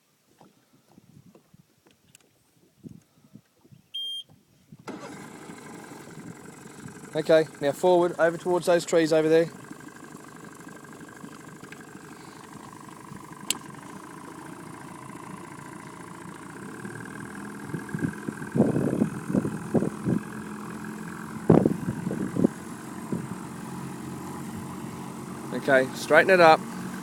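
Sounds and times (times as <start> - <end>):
outboard motor running: 4.8 - 27.0.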